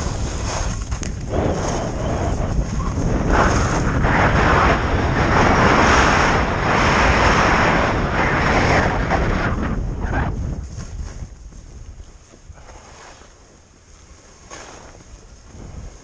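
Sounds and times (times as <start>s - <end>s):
ski edges scraping snow: 0.0s - 16.0s
wind rushing over microphone: 0.0s - 16.0s.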